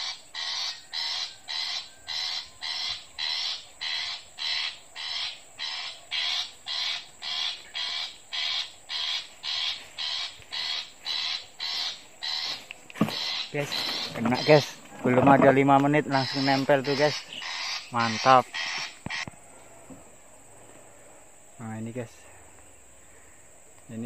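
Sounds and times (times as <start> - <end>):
recorded harsh bird calls: 0.0 - 24.0.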